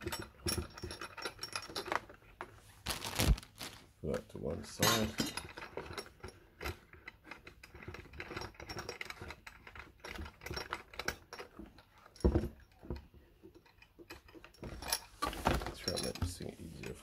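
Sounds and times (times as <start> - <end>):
metal parts clicking and tapping: 0.0 - 2.5, 4.6 - 17.0.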